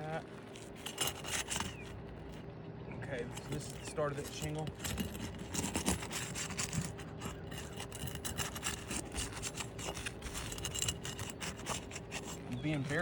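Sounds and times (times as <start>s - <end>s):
roof shingle scraping: 0.0s - 2.4s, 3.2s - 13.0s.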